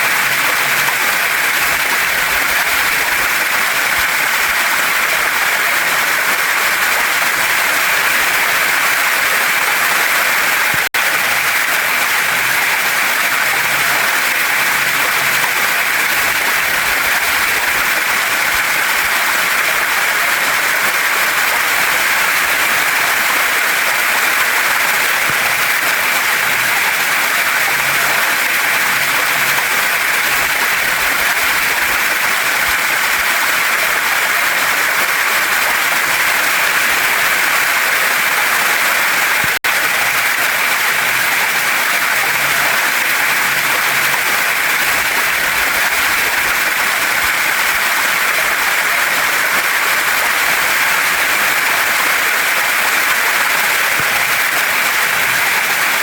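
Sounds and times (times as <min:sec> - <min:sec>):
waterfall pouring over rocks: 0:00.0 - 0:56.0.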